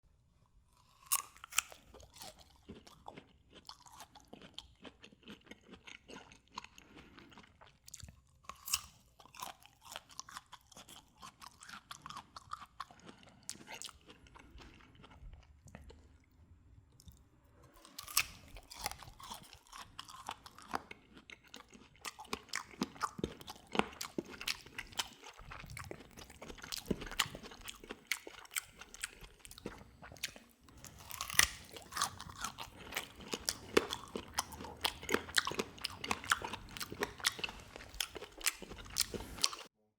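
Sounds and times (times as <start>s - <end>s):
person biting and chewing fruit: 0.7s - 39.7s.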